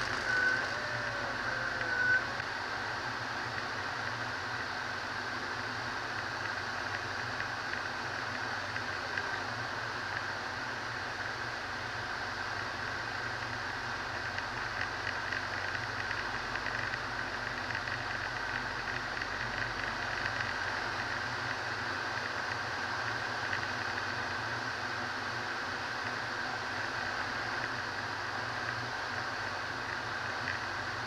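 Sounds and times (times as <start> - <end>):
light aircraft engine drone: 0.0 - 31.0.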